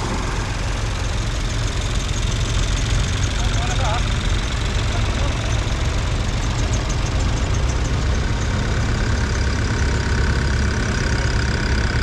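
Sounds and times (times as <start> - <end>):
tractor engines rumbling: 0.0 - 12.0.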